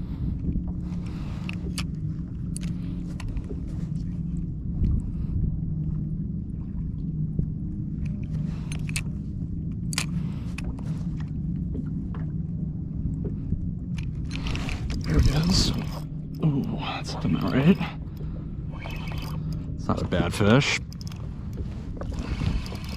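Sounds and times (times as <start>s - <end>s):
low motor hum: 0.0s - 22.9s.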